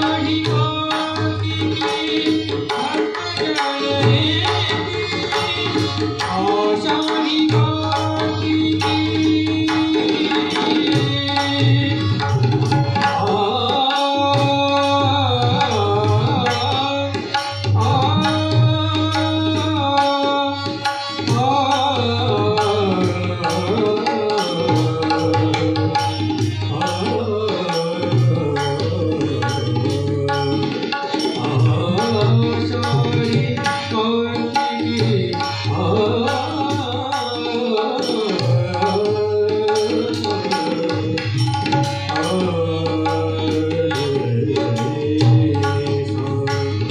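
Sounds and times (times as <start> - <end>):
hand drums rhythm: 0.0 - 46.9
person singing melody: 0.0 - 46.9.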